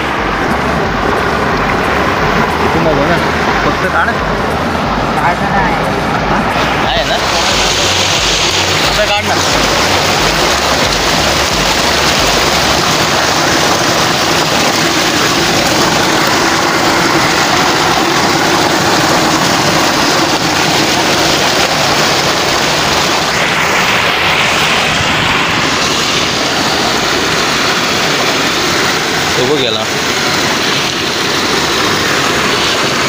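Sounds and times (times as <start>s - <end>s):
water gushing over metal: 0.0s - 33.0s.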